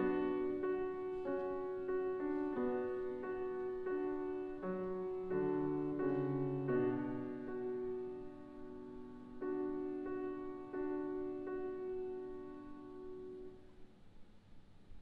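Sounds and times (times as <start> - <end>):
slow classical piano piece: 0.0 - 15.0.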